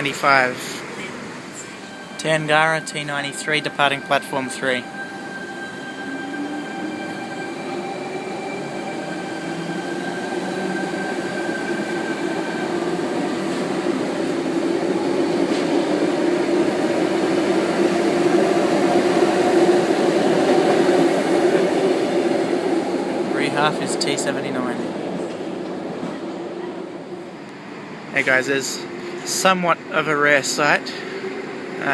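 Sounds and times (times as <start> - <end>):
train rumbling through: 0.0 - 31.9.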